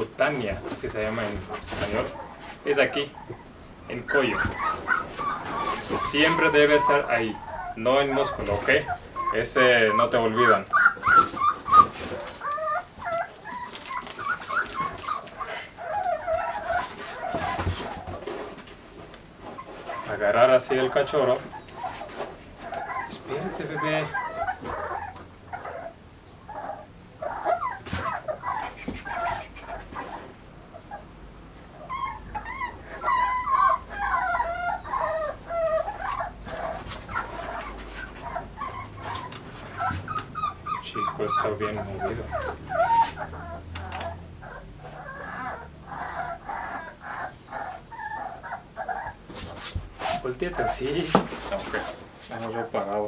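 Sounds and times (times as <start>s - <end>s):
puppy whimpering and whining: 0.4s - 18.6s, 19.3s - 52.0s.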